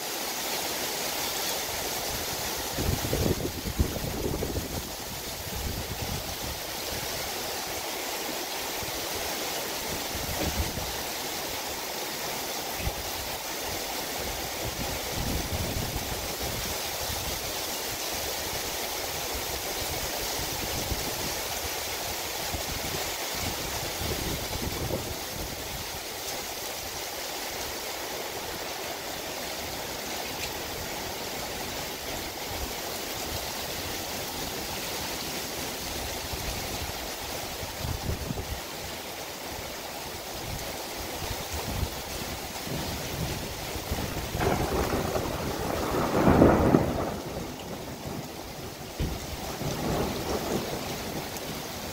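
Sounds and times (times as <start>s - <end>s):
rain falling on trees: 0.0s - 51.9s.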